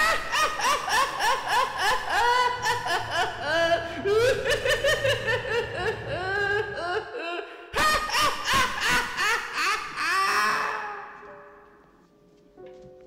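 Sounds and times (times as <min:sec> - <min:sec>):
man laughing wildly: 0:00.0 - 0:11.2.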